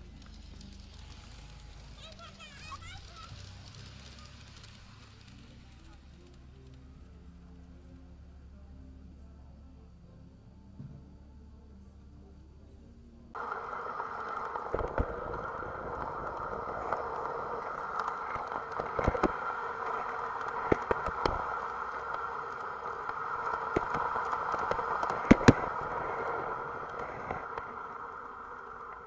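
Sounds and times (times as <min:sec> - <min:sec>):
wheels clicking on rail joints: 0:00.0 - 0:07.8, 0:13.4 - 0:29.0
model train rolling hum: 0:00.0 - 0:29.0.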